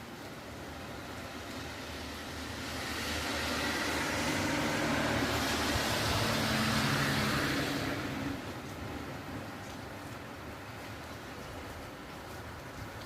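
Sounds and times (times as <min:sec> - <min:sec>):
car passing on wet street: 0:00.0 - 0:13.0
steady rain: 0:00.0 - 0:13.0.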